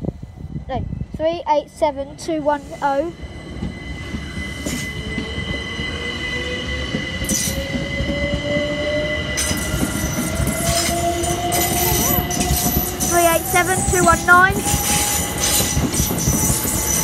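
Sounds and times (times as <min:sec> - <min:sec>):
train wheels rumbling on rails: 0:00.0 - 0:17.0
steady high-pitched tones: 0:01.7 - 0:17.0
train motor whine rising: 0:03.3 - 0:17.0.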